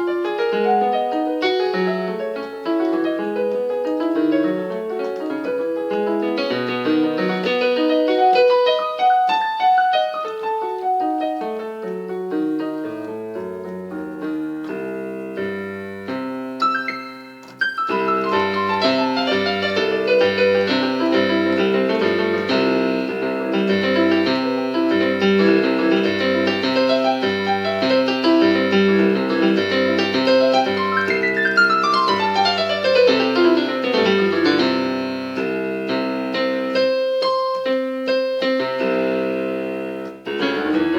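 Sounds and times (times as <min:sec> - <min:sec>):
solo piano playing: 0:00.0 - 0:40.9.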